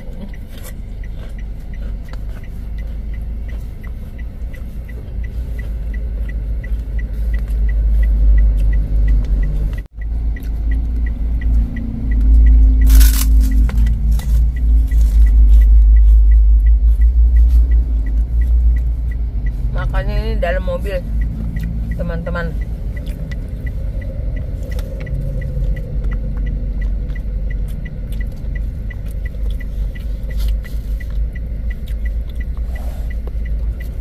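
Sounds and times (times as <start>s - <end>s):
faint steady ticking: 0.0s - 34.0s
low vehicle rumble: 0.0s - 34.0s.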